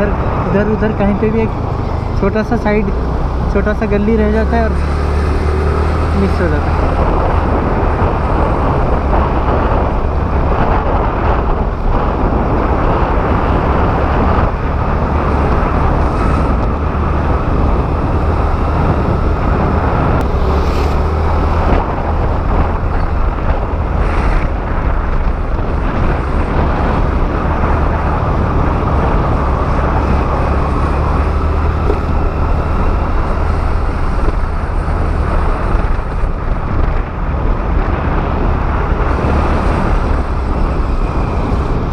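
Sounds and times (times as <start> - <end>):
scooter road noise: 0.0 - 41.9
wind rushing over microphone: 0.0 - 41.9.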